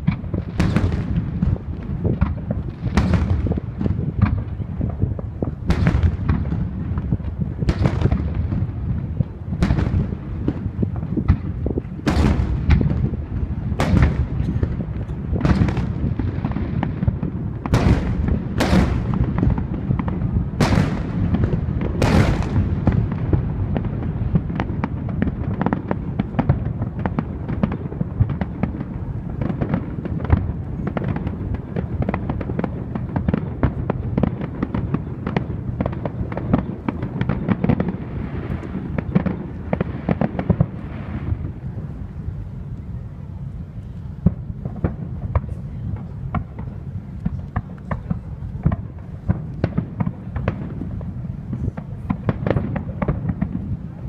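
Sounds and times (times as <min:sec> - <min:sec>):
crackle of small fireworks bursts: 0:00.0 - 0:54.0
fireworks booming: 0:00.0 - 0:54.0
steady low rumble: 0:00.0 - 0:54.0.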